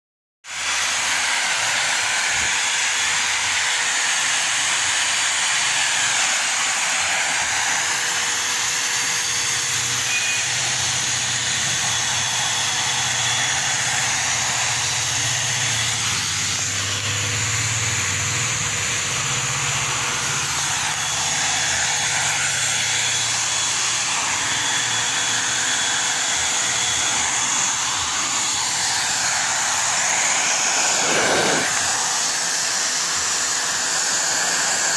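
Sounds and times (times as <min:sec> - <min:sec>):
air rushing from nozzle: 0:00.5 - 0:34.9
vacuum motor whine: 0:00.5 - 0:34.9.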